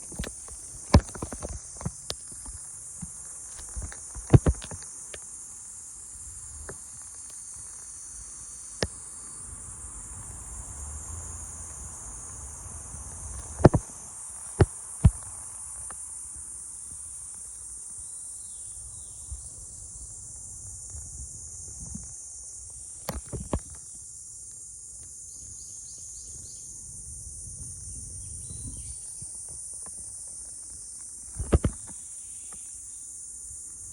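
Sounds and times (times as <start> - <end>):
insects buzzing: 0.0 - 33.9.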